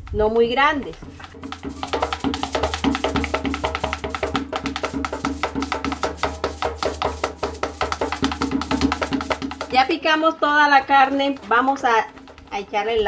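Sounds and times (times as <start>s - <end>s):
background music with percussive beat: 0.8s - 13.0s.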